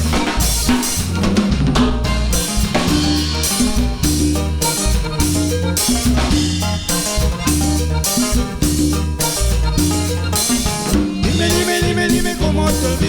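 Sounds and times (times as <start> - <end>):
cumbia instrumental music: 0.0 - 13.0
drum kit and bass beat: 0.0 - 13.0.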